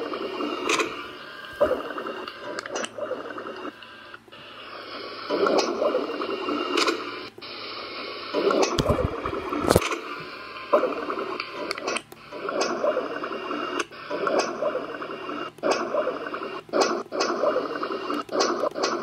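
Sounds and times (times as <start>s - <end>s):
dog stomach gurgling: 0.0s - 3.9s, 4.8s - 7.2s, 8.3s - 19.0s.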